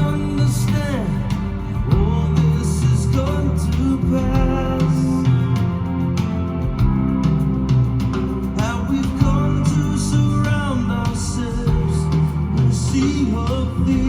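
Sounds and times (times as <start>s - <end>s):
rock ballad over speakers: 0.0s - 14.0s.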